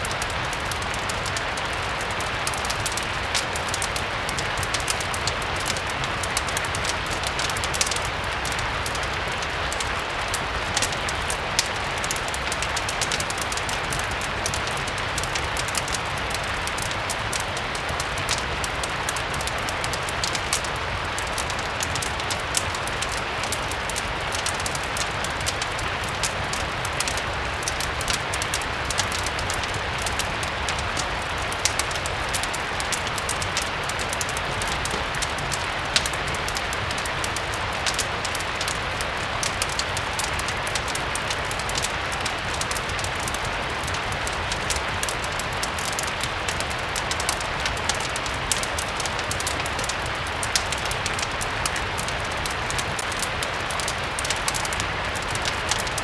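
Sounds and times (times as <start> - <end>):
fireplace crackling: 0.0 - 56.0
steady rain hiss: 0.0 - 56.0.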